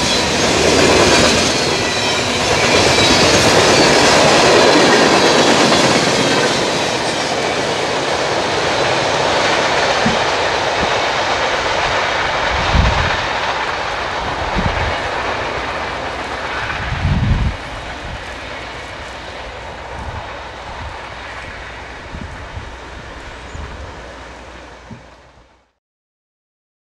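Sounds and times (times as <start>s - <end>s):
freight train rail noise: 0.0s - 25.8s.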